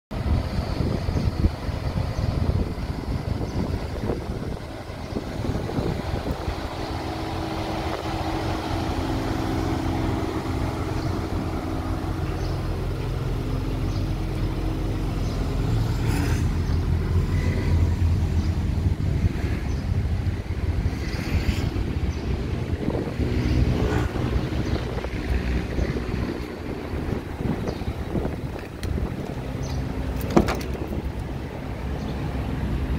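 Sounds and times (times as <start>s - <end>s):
vehicle engine rumbling: 0.1s - 32.9s.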